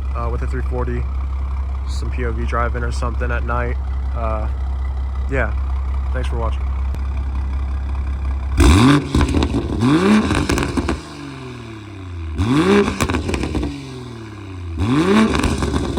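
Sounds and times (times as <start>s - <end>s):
car engine idling and revving: 0.0s - 15.9s.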